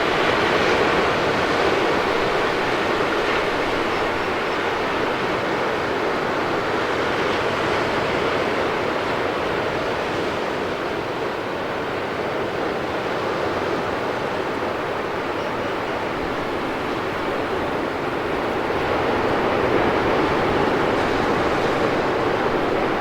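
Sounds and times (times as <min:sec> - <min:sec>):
ocean waves washing: 0:00.0 - 0:23.0.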